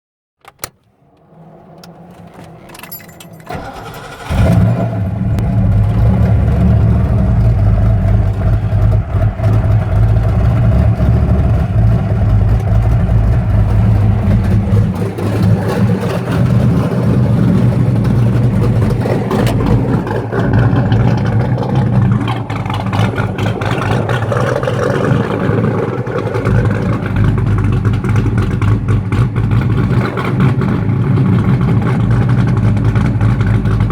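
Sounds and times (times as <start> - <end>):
car engine cranking and running: 0.4 - 33.9.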